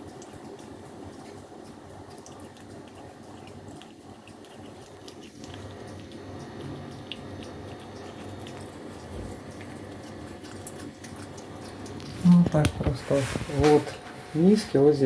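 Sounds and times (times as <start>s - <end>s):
kitten gnawing on a toy: 0.0s - 14.0s
steady background hum: 0.0s - 15.0s.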